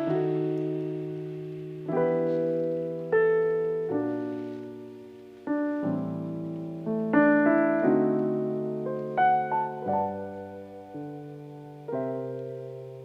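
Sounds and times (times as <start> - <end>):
keyboard playing sustained chords: 0.0 - 13.0.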